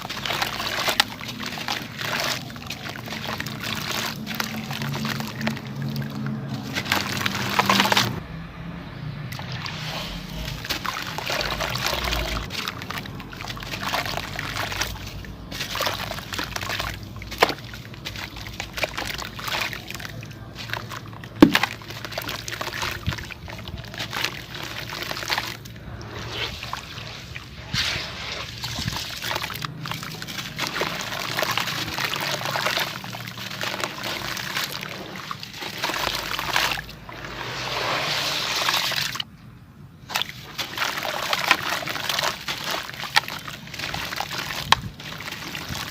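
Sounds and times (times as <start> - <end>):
wet sloshing and crumbling: 0.0 - 8.2, 9.3 - 45.9.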